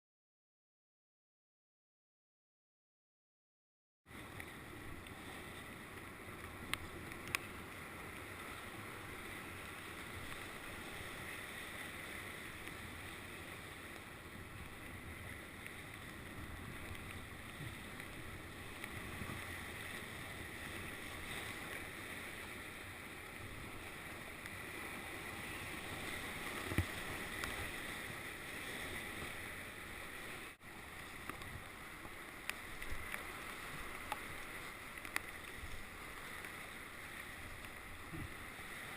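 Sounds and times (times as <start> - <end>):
whitewater rushing: 4.2 - 38.9.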